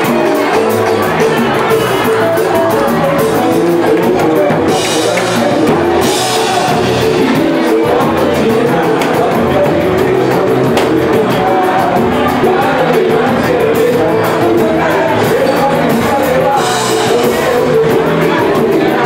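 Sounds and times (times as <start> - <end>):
live band playing: 0.0 - 19.0
person singing: 0.0 - 19.0
rhythmic percussion: 0.0 - 19.0.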